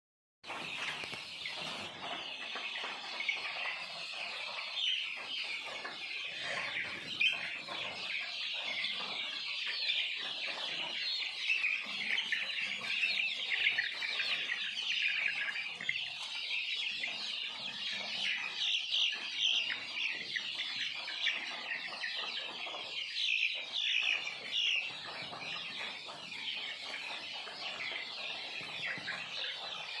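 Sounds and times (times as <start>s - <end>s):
chickens cheeping and clucking: 0.5s - 30.0s.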